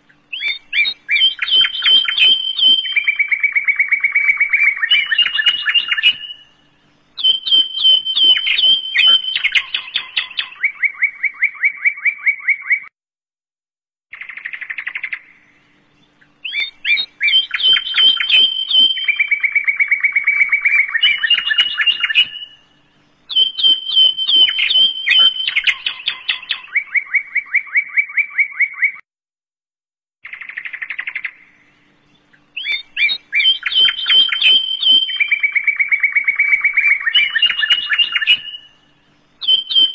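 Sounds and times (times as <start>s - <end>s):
birdsong chirps and trills: 0.0s - 12.9s, 14.1s - 29.0s, 30.2s - 39.9s.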